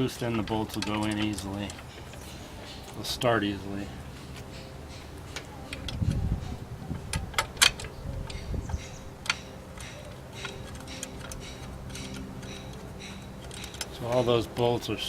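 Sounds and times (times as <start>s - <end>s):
metal bolts clicking and knocking: 0.0s - 14.9s.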